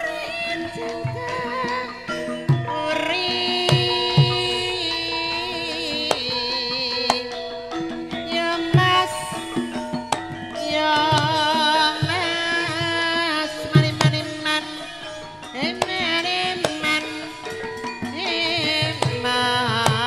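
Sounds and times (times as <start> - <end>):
metallophone tones: 0.0 - 20.0
woman singing with vibrato: 0.0 - 20.0.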